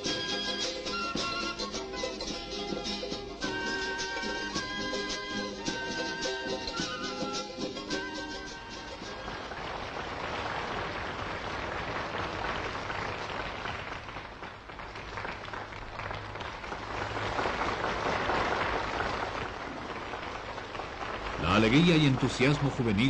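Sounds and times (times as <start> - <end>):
large crowd applauding: 3.1 - 23.0.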